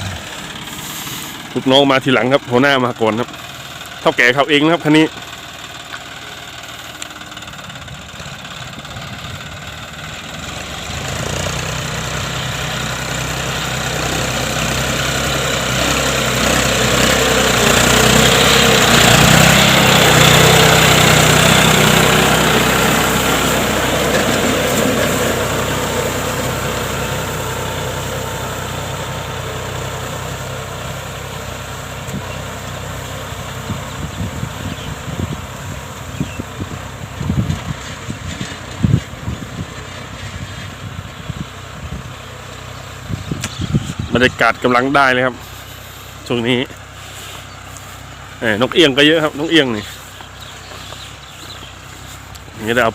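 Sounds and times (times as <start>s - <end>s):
tractor diesel engine under load: 0.0s - 52.9s.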